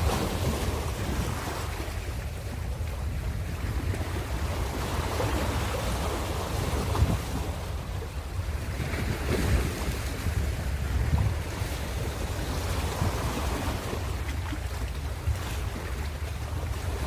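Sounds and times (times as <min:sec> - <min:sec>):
ocean surf rumbling: 0:00.0 - 0:17.0
wind buffeting microphone: 0:00.0 - 0:17.0.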